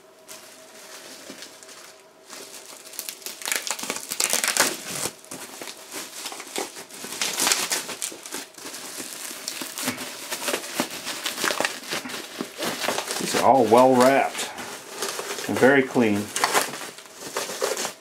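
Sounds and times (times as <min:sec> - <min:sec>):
bubble wrap crinkling: 0:00.2 - 0:18.0.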